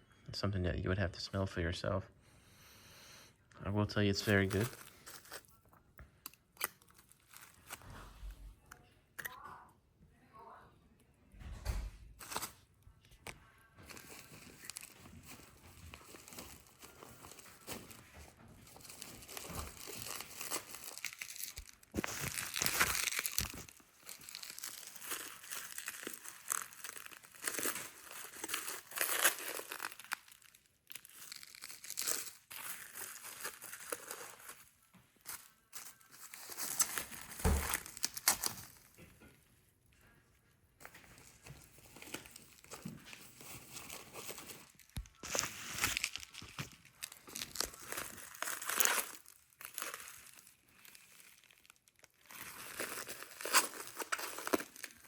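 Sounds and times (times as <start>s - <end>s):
packaging crinkling and tearing: 3.8s - 8.0s, 12.2s - 39.0s, 40.8s - 55.0s.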